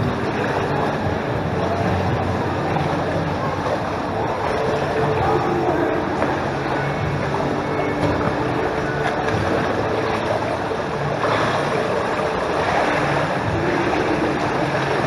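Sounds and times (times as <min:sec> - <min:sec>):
pool water churning and lapping: 0:00.0 - 0:15.0
swimmer splashing: 0:00.0 - 0:15.0.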